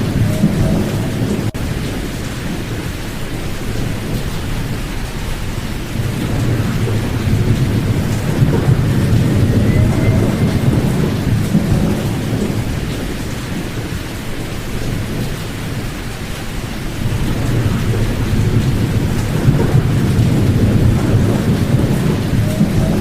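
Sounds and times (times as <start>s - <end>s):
pink noise hiss: 0.0s - 23.0s.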